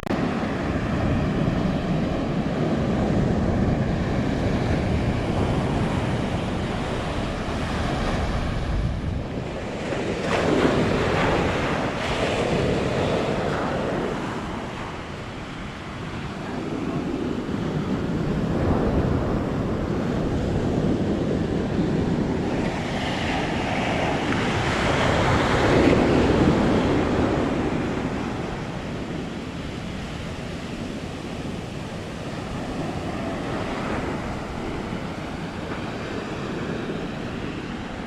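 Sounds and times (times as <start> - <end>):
ocean surf breaking: 0.1 - 38.0
wind buffeting microphone: 0.1 - 38.0.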